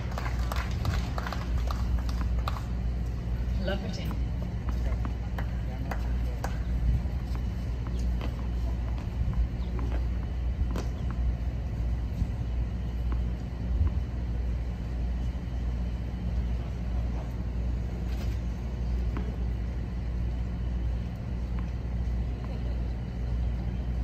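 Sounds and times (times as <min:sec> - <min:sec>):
low rumble with hum: 0:00.0 - 0:24.0.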